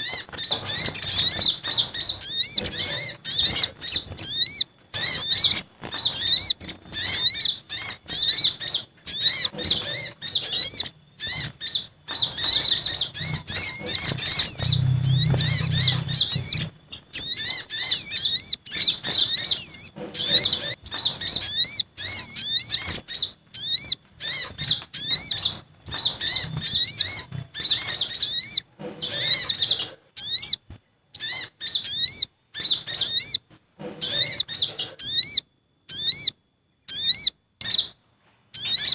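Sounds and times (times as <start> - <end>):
sunbirds chirping: 0.0 - 38.9.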